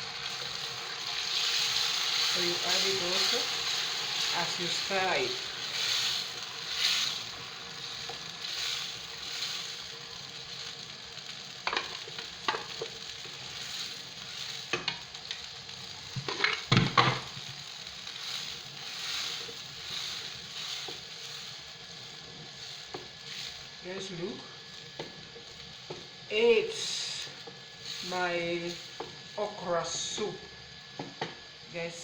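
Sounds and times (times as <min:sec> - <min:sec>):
puree sizzling in hot oil: 0:00.0 - 0:32.0.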